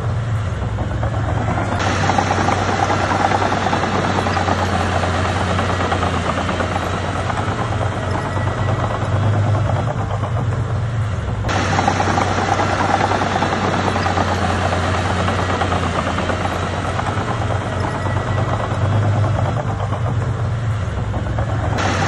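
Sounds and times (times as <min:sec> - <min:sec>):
bulldozer diesel engine droning: 0:00.0 - 0:22.0
dense rattle: 0:00.0 - 0:22.0.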